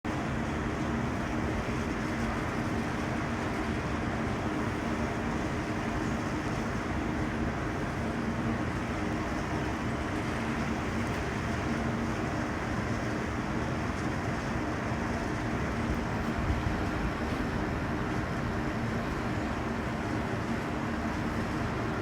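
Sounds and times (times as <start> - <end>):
air conditioning unit running: 0.0 - 22.0.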